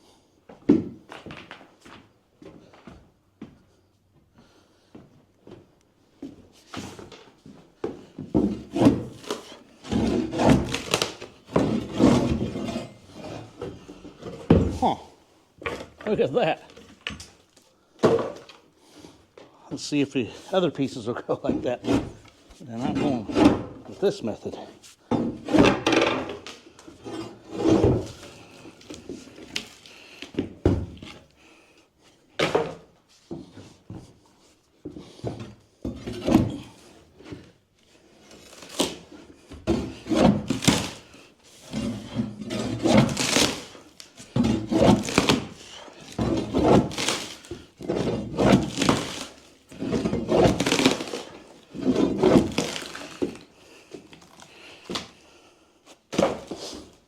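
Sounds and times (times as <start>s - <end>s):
floorboards creaking and cracking: 0.5s - 57.0s.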